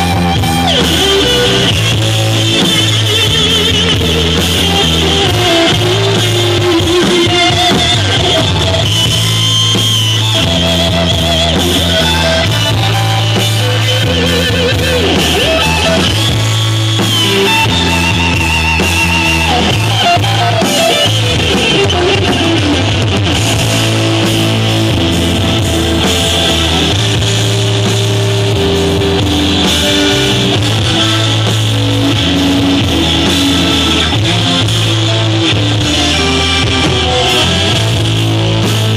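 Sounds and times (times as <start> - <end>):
bass guitar: 0.0 - 38.9
drums: 0.0 - 38.9
electric guitar: 0.0 - 38.9
keyboards: 0.0 - 38.9.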